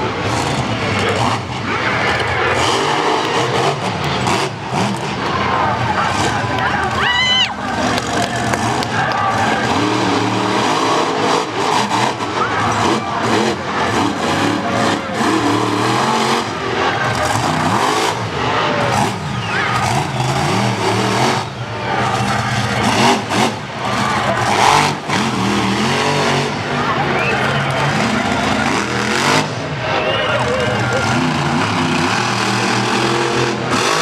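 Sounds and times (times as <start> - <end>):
monster truck engine revving: 0.0 - 34.0.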